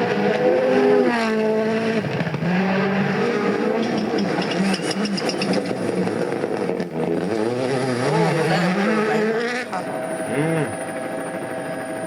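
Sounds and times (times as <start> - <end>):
rally car engine revving: 0.0 - 10.9.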